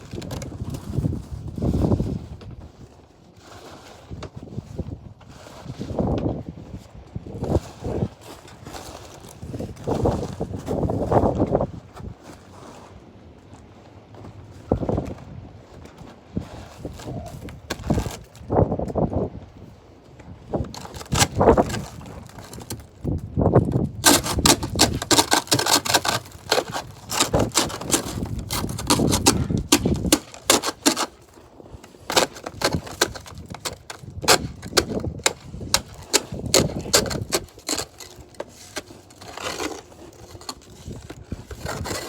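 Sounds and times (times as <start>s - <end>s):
ice crunching and cracking: 0.0s - 6.4s, 7.3s - 12.9s, 15.8s - 19.2s, 20.2s - 42.0s.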